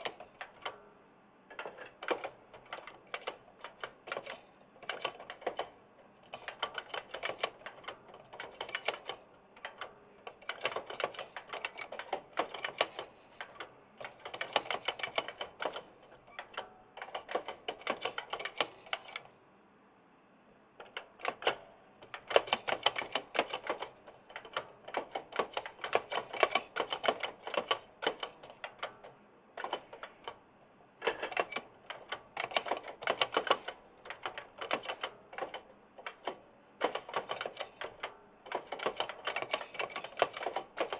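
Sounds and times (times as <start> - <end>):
mechanical keyboard clicking: 0.0 - 0.8, 1.5 - 19.3, 20.8 - 30.4, 31.0 - 40.9.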